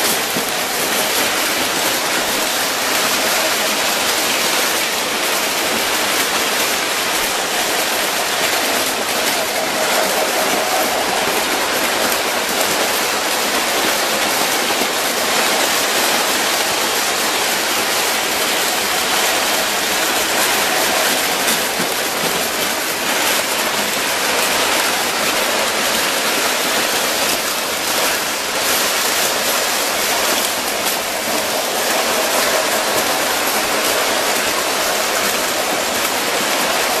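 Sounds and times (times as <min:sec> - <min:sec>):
model trains running on metal track: 0:00.0 - 0:37.0.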